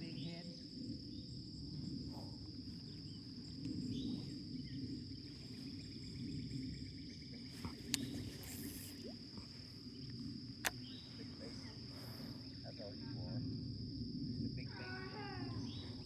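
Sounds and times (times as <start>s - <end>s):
insects trilling: 0.0s - 16.0s
low wind rumble: 0.0s - 16.0s.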